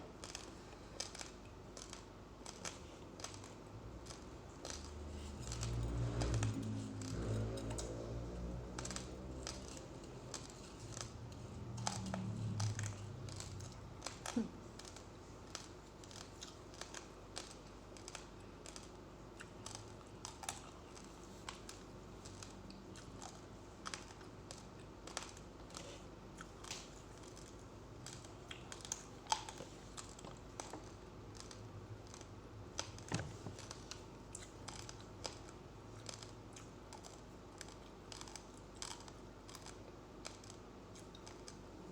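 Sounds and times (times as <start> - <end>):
chewing raw rice crunching: 0.1 - 41.9.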